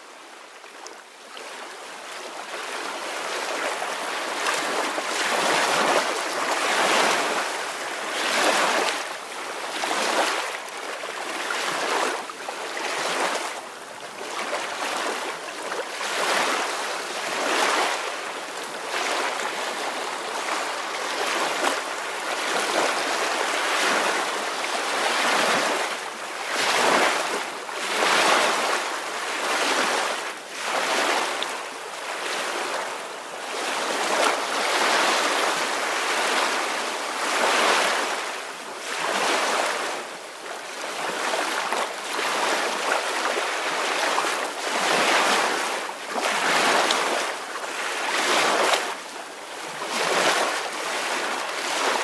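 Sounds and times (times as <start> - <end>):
small waves washing on shore: 0.0 - 52.0.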